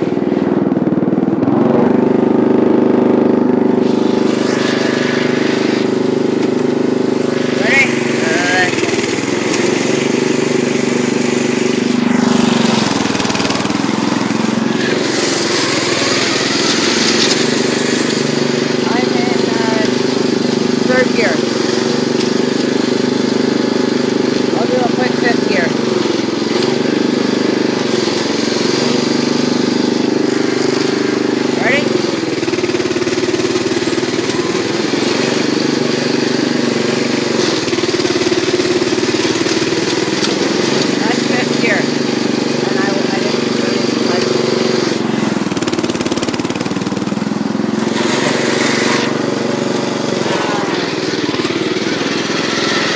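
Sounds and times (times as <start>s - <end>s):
lawn tractor engine fast idle: 0.0s - 52.9s.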